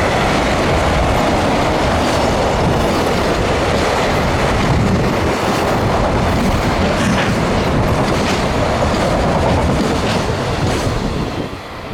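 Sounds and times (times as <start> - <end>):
wheels clacking over rail joints: 0.0 - 11.6
freight train rumbling past: 0.0 - 11.9.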